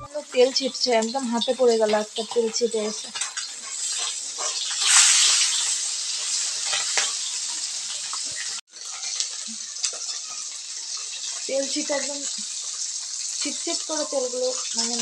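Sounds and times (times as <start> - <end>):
fish sizzling in oil: 0.0 - 15.0
oil spattering crackles: 0.1 - 15.0.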